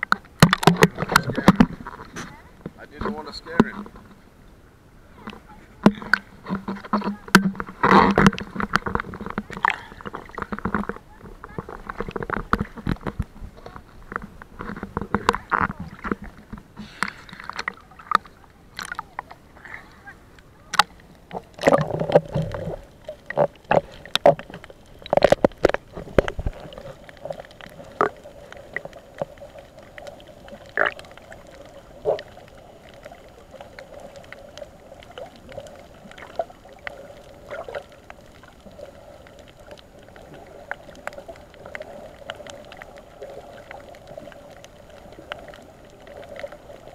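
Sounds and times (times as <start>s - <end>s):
water splashing: 0.0s - 46.9s
muffled underwater hum: 3.8s - 46.9s.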